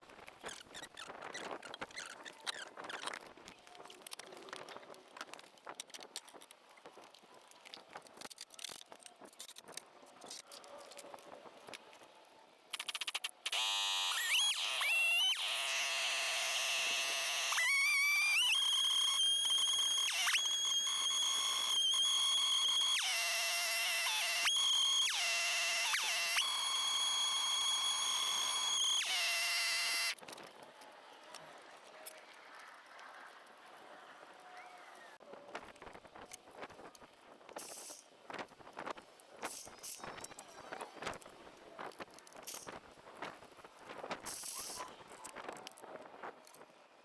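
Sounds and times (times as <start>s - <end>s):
faint clicks and crackles: 0.0s - 46.8s.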